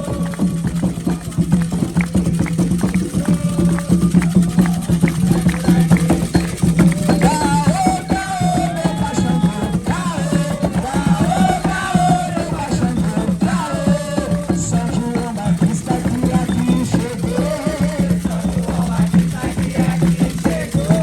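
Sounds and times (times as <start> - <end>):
group singing a chant: 0.0 - 21.0
hand drums beating: 0.0 - 21.0.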